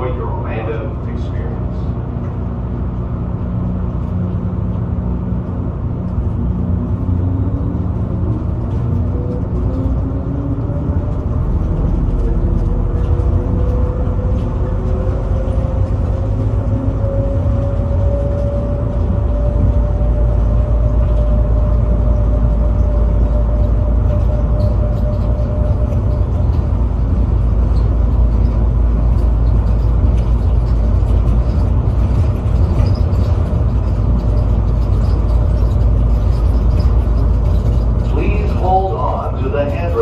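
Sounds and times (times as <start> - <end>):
shuttle car rumbling: 0.0 - 40.0.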